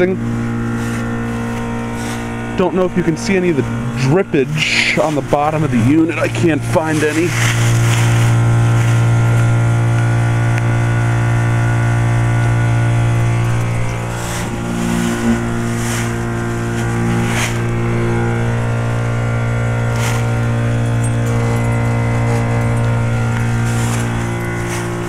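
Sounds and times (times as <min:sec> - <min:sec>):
compressor humming: 0:00.0 - 0:25.0.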